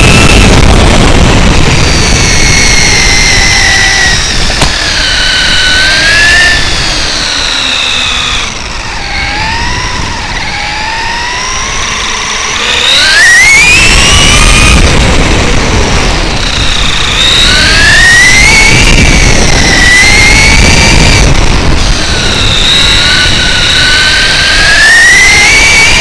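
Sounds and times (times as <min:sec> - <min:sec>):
low rumble: 0:00.0 - 0:24.6
electric motor whine: 0:00.0 - 0:26.0.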